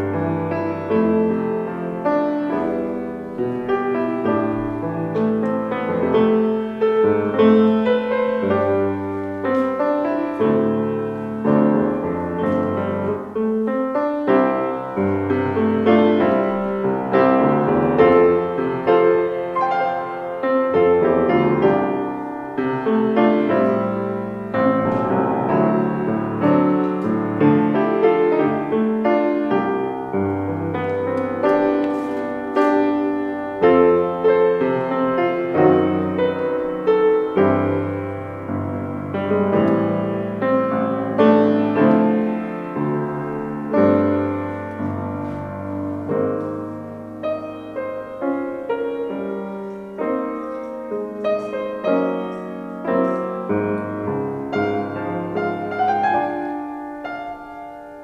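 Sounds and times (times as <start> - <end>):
gentle piano piece: 0.0 - 58.0.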